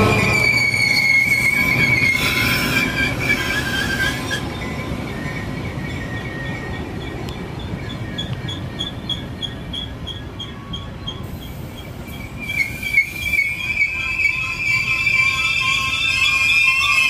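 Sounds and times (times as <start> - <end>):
high wheel squeal: 0.0 - 17.0
wheels rumbling on rail: 0.0 - 17.0.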